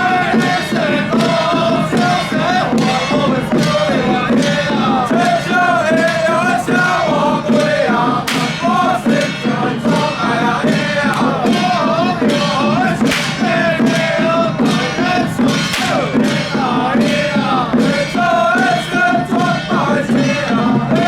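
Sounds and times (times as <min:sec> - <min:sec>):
drum and gong strikes: 0:00.0 - 0:21.0
group chanting: 0:00.0 - 0:21.0.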